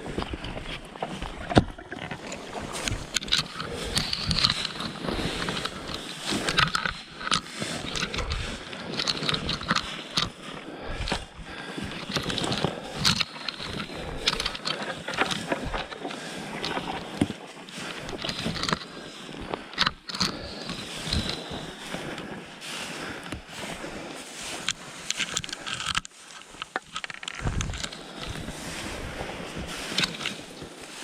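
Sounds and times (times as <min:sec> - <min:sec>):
thin ice cracking and scraping: 0:00.0 - 0:22.3, 0:23.0 - 0:31.0.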